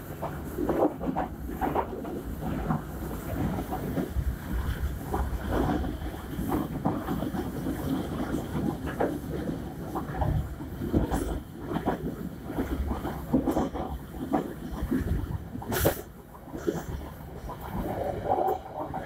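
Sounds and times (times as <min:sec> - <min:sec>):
train wheels rumbling on rail: 0:00.0 - 0:19.0
clacks and knocks: 0:00.2 - 0:19.0.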